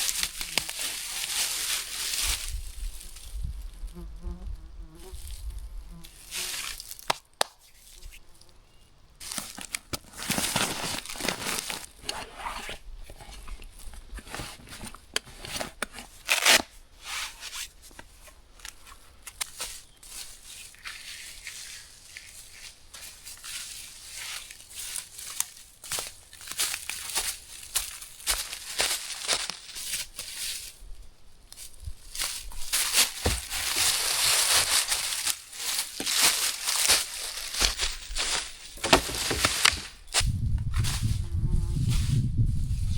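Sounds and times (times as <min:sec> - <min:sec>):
dry leaves rustling and crunching: 0:00.0 - 0:04.0, 0:05.1 - 0:08.0, 0:09.2 - 0:14.9, 0:18.1 - 0:42.9.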